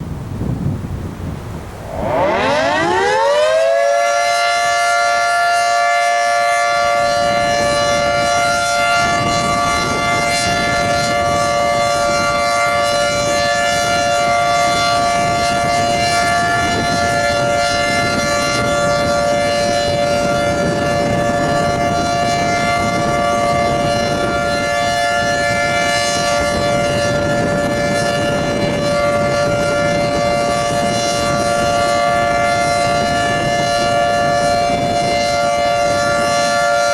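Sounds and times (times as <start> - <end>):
wind rumble on microphone: 0.0 - 36.9
two-tone siren wailing: 1.8 - 36.9.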